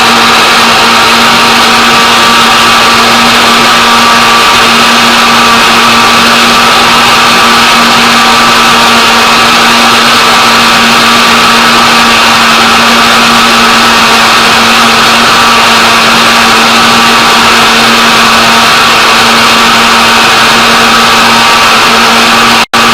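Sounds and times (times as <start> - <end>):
blender motor whirring: 0.0 - 22.9.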